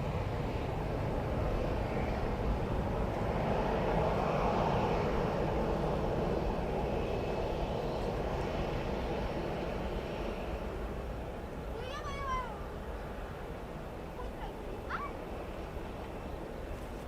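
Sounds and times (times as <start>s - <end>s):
jet airliner engines rushing: 0.0s - 17.0s.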